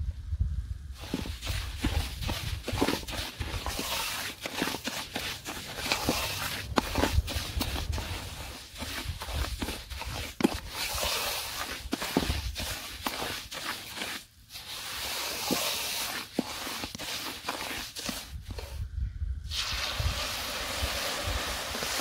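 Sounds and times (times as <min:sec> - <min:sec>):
wooden spatula scraping metal pan: 0:01.0 - 0:18.7.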